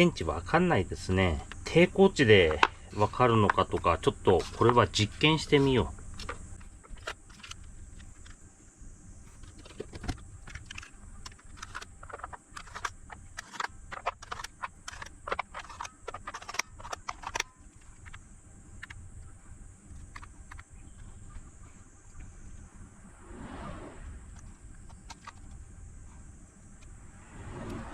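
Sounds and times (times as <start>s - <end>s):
faint high whine: 0.0s - 27.9s.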